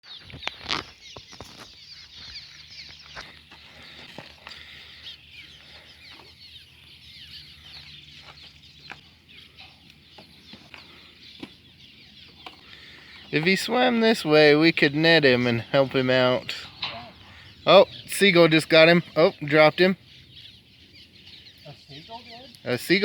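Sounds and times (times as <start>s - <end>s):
swallows chirping: 0.0s - 23.0s.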